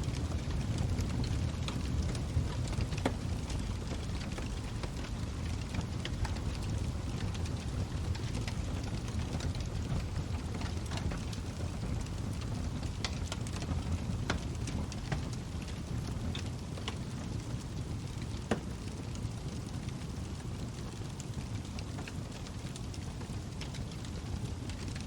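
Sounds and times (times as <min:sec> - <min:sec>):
burning wood crackling and popping: 0:00.0 - 0:25.0
log fire rumbling: 0:00.0 - 0:25.0.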